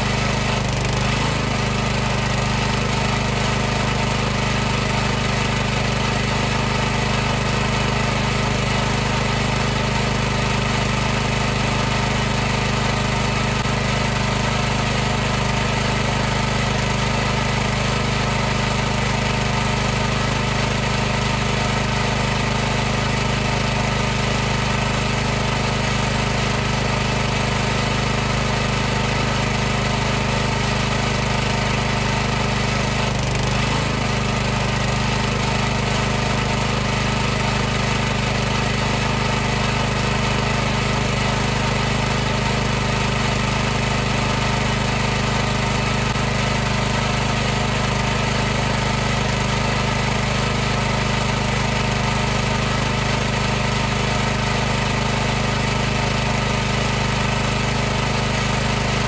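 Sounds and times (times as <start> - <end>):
pressure washer running: 0.0 - 59.0.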